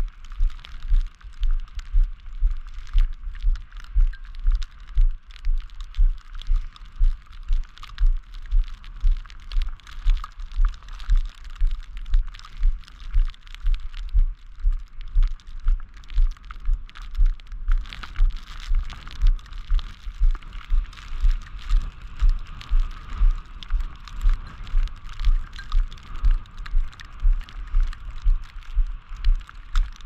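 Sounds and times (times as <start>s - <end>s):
footsteps on snow: 0.0s - 30.0s.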